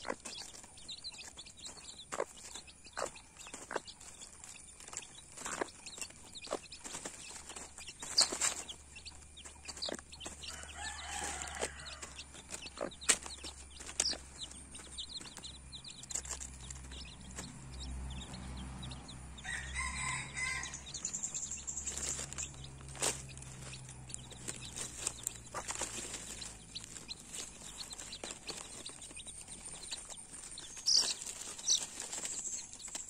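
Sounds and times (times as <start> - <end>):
hen clucking: 0.0 - 17.6, 19.4 - 33.0
chicks peeping: 0.0 - 33.0.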